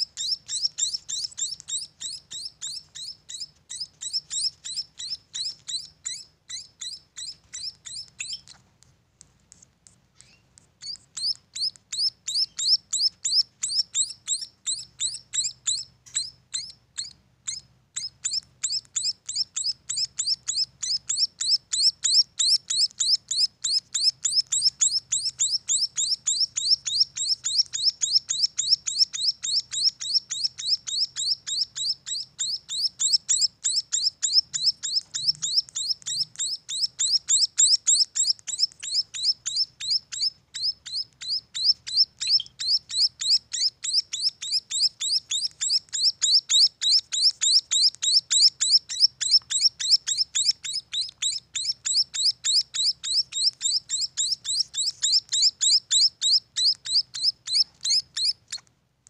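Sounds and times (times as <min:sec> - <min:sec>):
high bird chirps: 0:00.0 - 0:08.6, 0:10.2 - 0:58.6.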